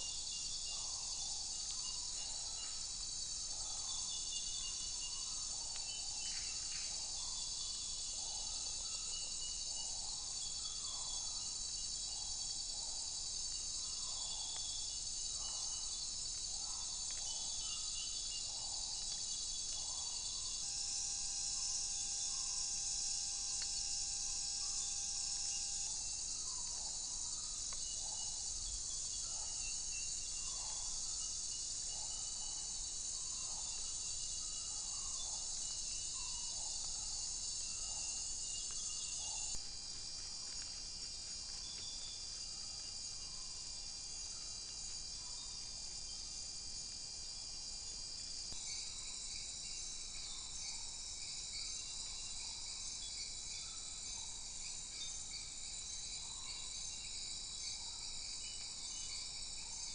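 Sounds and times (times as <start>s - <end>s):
low repeating insect note: 0.0s - 59.9s.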